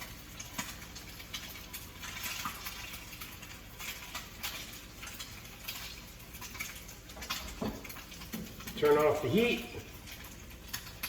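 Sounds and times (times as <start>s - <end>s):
egg sizzling and popping in pan: 0.0s - 11.0s.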